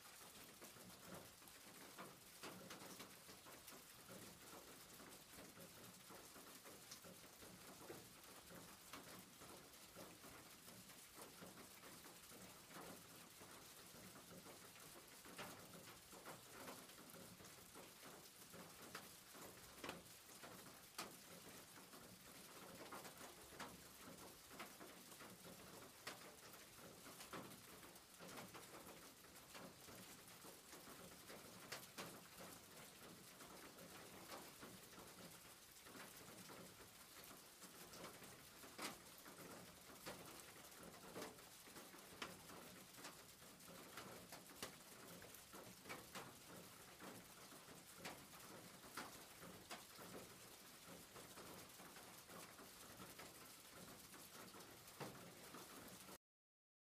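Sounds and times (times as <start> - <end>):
rain patter on a roof: 0.0 - 56.2
raindrops ticking: 0.0 - 56.2.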